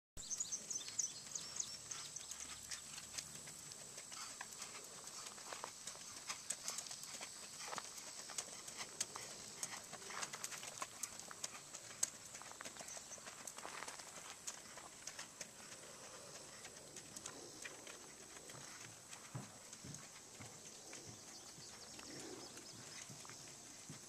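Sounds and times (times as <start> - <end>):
horse hoofbeats on dirt: 0.3 - 24.0.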